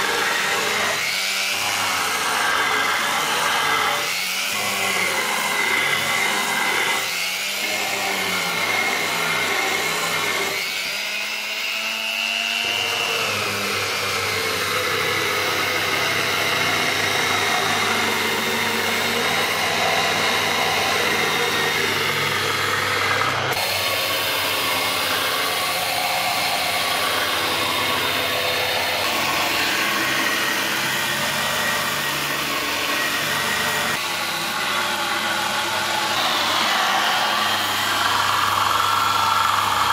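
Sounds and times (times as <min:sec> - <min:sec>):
polishing wheel grinding metal: 0:00.0 - 0:11.8, 0:12.6 - 0:39.9
electric polisher whining: 0:00.0 - 0:39.9.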